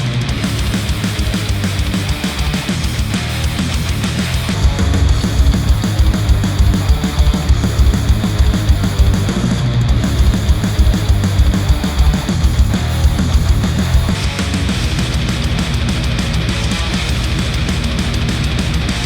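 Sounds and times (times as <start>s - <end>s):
distorted electric guitar: 0.0s - 19.0s
heavy rock music: 0.0s - 19.0s
rapid kick drum hits: 0.2s - 19.0s.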